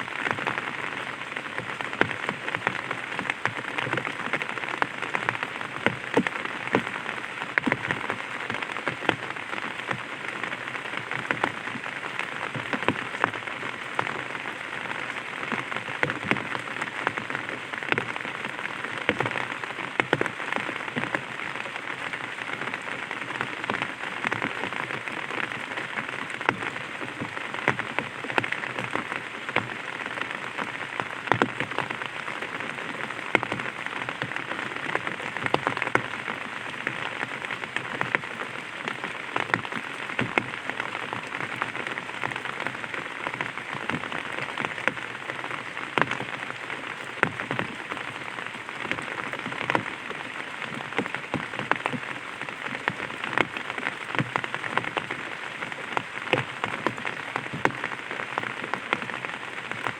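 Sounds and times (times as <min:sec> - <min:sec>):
rain on an umbrella: 0:00.0 - 0:59.9.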